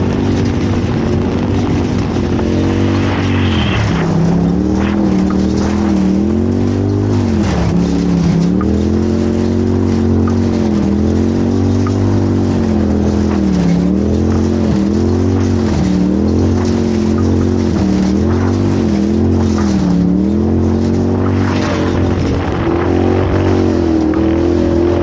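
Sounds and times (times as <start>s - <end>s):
driving noise rumble: 0.0s - 25.0s
race vehicle engine revving: 0.0s - 25.0s.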